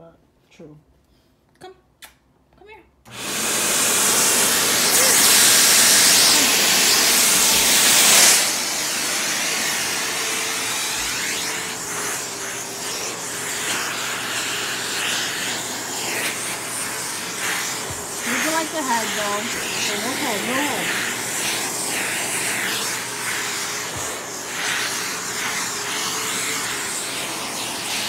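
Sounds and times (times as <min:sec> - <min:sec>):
vacuum cleaner running: 0:03.1 - 0:28.0.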